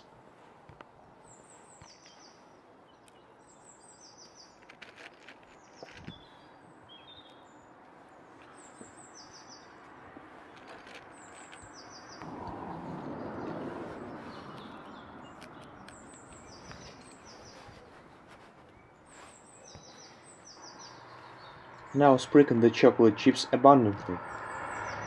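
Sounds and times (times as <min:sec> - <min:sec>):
outdoor background hiss: 0:00.0 - 0:25.0
small songbird chirping: 0:01.1 - 0:22.7, 0:23.8 - 0:25.0.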